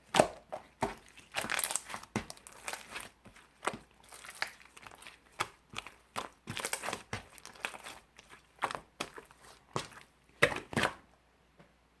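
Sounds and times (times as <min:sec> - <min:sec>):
slime squishing pops: 0:00.1 - 0:11.0.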